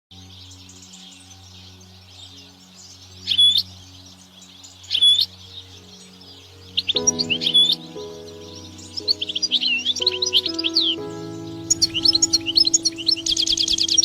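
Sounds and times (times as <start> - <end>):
finches twittering: 0.2 - 14.0
loud bird calls: 0.2 - 14.0.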